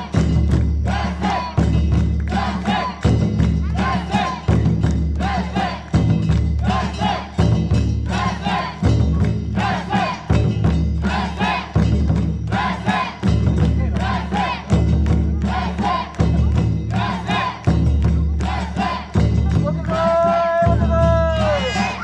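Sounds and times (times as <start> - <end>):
crowd chanting in rhythm: 0.0 - 19.4, 21.4 - 22.0
heavy low beat: 0.0 - 22.0.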